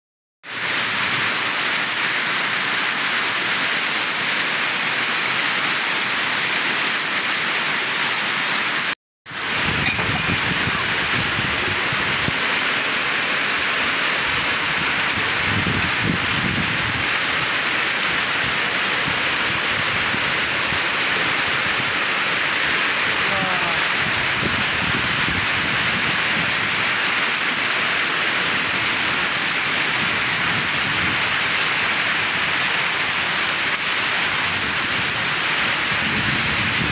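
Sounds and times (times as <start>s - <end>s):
heavy rain pouring: 0.4s - 36.9s
wind gusting through trees: 0.5s - 36.9s.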